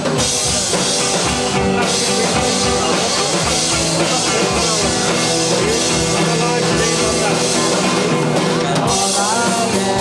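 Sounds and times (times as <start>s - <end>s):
drum kit steady beat: 0.0s - 10.0s
live rock band playing: 0.0s - 10.0s.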